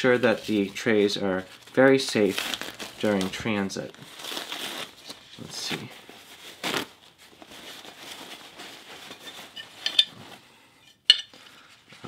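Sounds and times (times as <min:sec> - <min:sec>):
paper towel rustling: 0:00.0 - 0:10.5.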